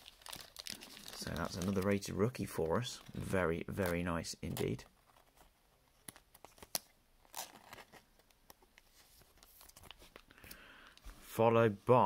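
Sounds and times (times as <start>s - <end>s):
trading cards rustling and clicking: 0.1s - 11.1s.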